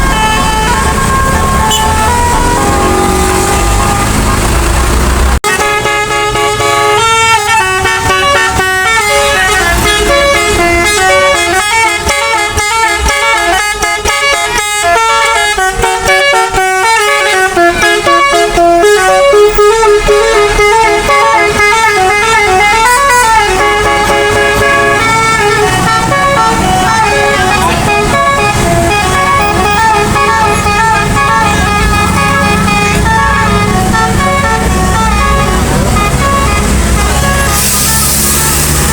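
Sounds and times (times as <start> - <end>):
musical air horn tune: 0.0 - 4.8, 5.4 - 38.9
bus engine running: 0.0 - 38.9.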